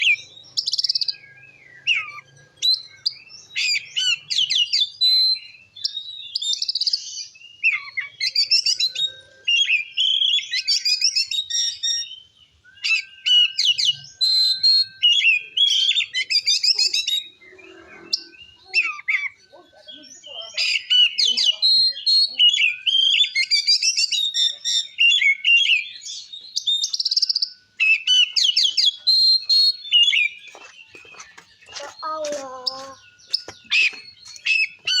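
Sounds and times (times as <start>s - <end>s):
magpie-robin singing whistles and trills: 0.0s - 35.0s.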